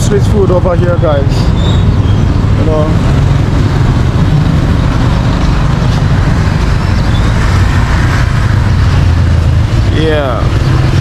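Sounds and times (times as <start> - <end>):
passing cars and motorbikes: 0.0 - 11.0.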